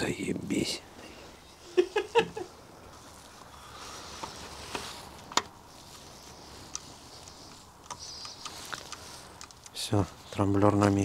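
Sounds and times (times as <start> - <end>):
soft handling hiss: 0.0 - 11.0.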